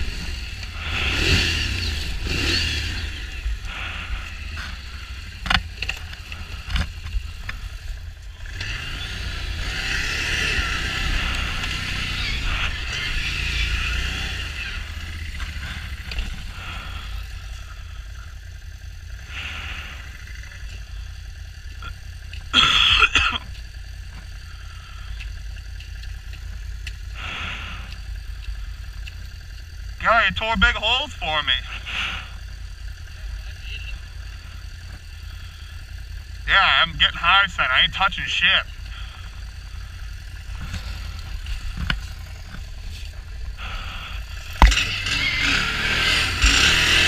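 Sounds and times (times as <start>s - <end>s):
atv engine revving and idling: 0.0s - 47.0s.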